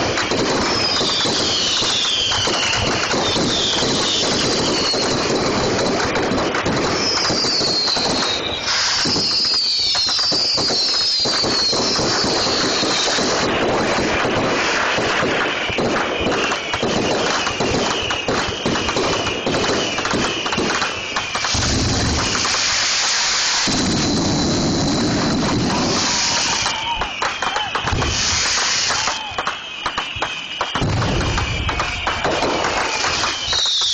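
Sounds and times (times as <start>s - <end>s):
falling firework whistles: 0.0s - 33.9s
fireworks crackling and popping: 0.0s - 33.9s.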